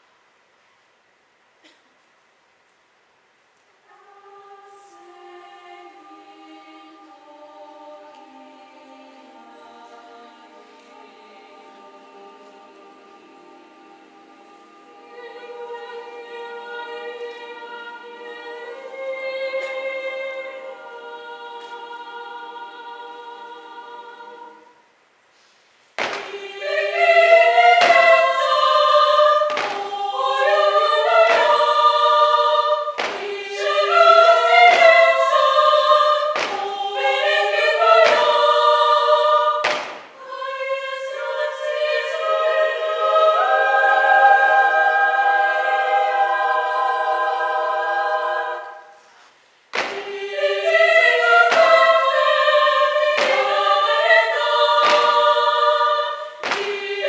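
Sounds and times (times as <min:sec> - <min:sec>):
women's choir singing a cappella: 0:03.8 - 0:25.0, 0:25.9 - 0:57.0.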